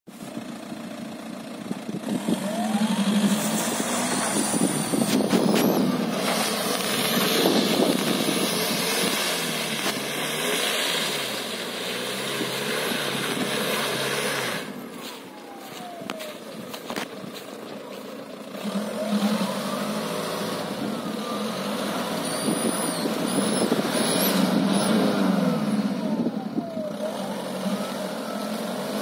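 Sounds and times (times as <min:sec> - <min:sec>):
diesel engine revving hard: 0:01.9 - 0:15.1, 0:17.9 - 0:29.0.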